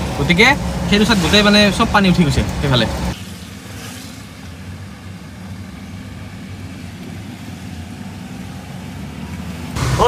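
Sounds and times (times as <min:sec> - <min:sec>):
in-cabin engine and tyre hum: 0:00.0 - 0:10.0.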